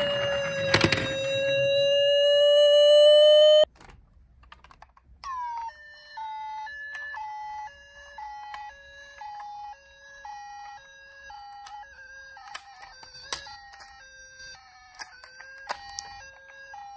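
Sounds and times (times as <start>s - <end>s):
toy electronic siren: 0.0s - 3.7s, 5.2s - 16.9s.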